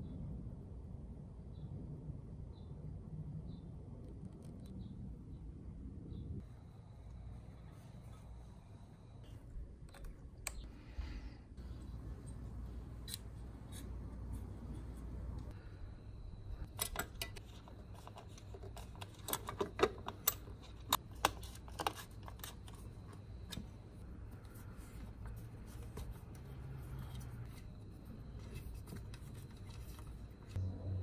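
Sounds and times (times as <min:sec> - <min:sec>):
low hum: 0:00.0 - 0:19.0, 0:22.8 - 0:31.0.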